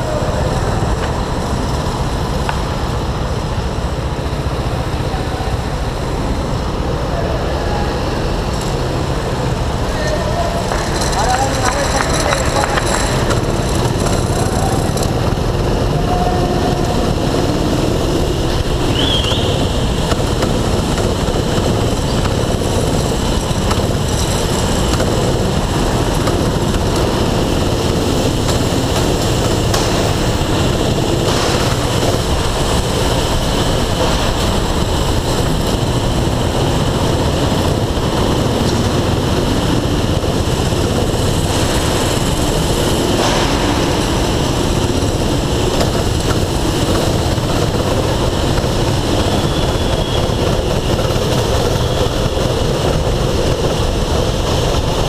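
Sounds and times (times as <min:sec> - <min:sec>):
go-kart engine drone: 0:00.0 - 0:55.0.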